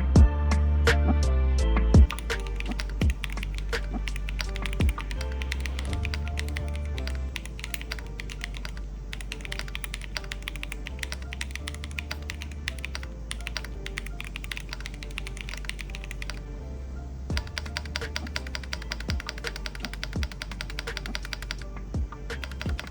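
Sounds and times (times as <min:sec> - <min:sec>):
background music: 0:00.0 - 0:22.9
mechanical keyboard typing: 0:02.1 - 0:16.4, 0:17.3 - 0:21.6, 0:22.4 - 0:22.9.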